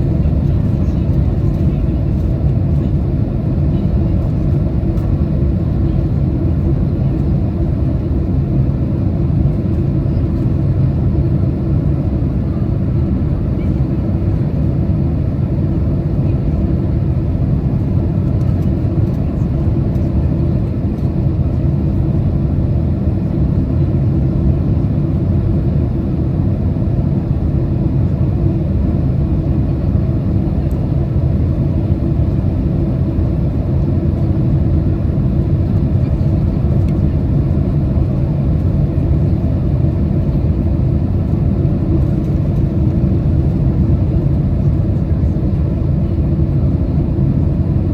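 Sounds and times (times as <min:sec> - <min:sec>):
airliner cabin rumble: 0:00.0 - 0:47.9.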